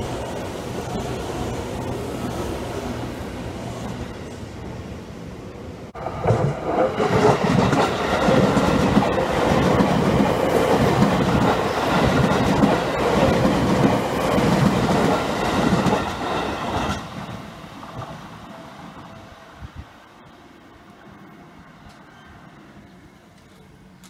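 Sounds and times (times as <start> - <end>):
train passing on rails: 0.0 - 24.0.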